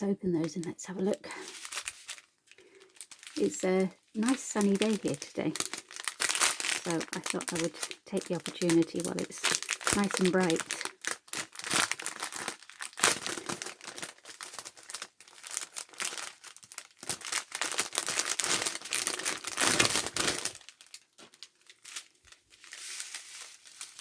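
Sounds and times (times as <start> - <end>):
plastic packets crinkling: 0.5 - 24.0.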